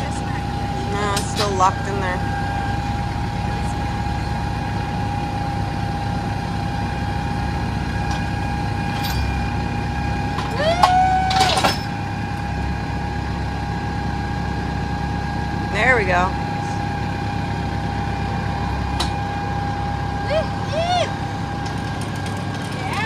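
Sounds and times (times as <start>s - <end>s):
steady whine: 0.0s - 23.0s
tractor diesel engines running: 0.0s - 23.0s.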